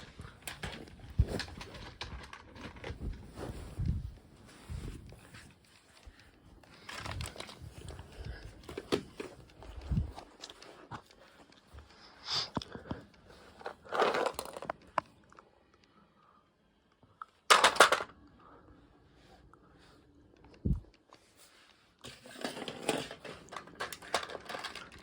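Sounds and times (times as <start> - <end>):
rustling and crinkling: 0.0 - 16.0, 19.2 - 25.0.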